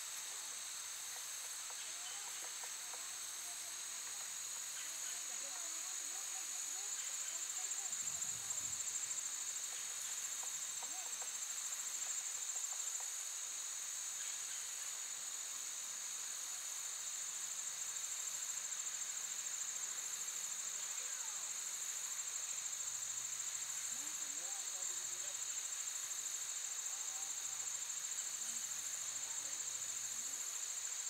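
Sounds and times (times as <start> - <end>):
insect chorus chirring: 0.0 - 31.0.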